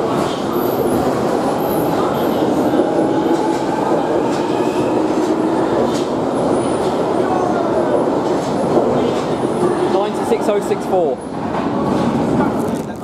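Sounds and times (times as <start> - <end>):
rumble of train wheels on rail: 0.0 - 13.0.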